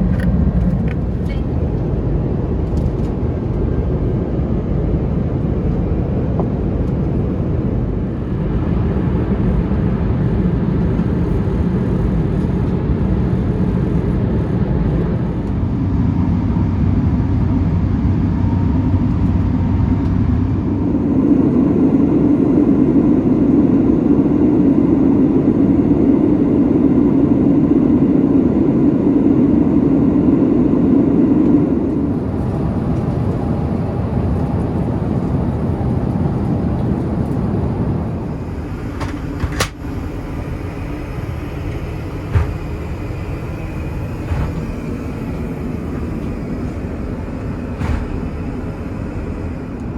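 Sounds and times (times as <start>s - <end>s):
jet engine cabin drone: 0.0s - 49.9s.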